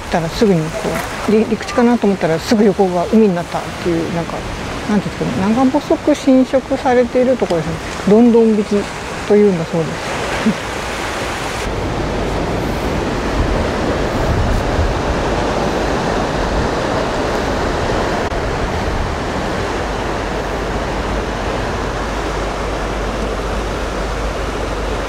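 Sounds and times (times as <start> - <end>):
rough sea surging on rocks: 0.0 - 25.0.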